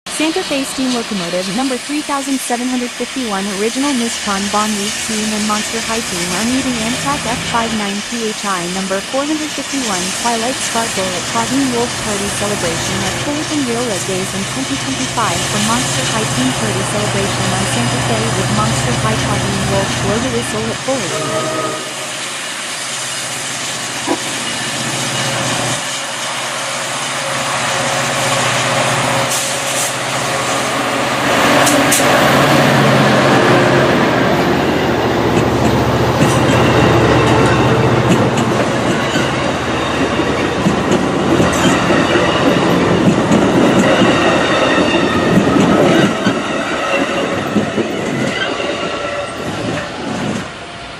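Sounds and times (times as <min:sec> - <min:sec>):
train wheels rumbling on rail: 0:00.2 - 0:50.9.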